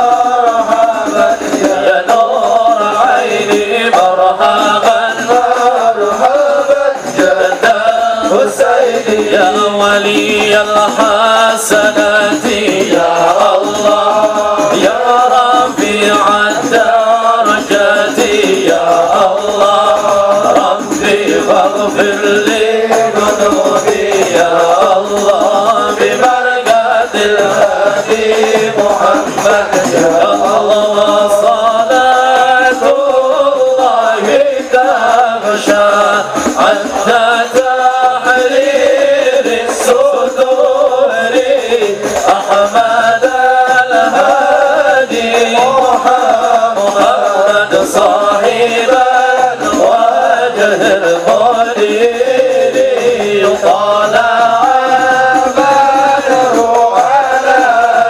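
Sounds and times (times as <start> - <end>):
frame drums beating: 0.0 - 58.0
voices singing devotional song: 0.0 - 58.0.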